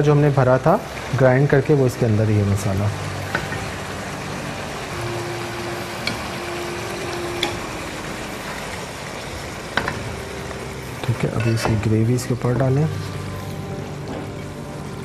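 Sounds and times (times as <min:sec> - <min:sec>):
food sizzling in pan: 0:00.0 - 0:15.0.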